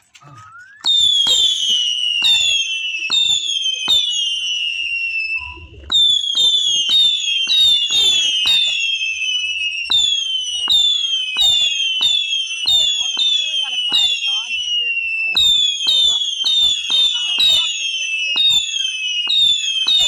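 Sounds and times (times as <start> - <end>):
firework pops: 0.0 - 20.0
firework whistles sliding down: 0.0 - 20.0.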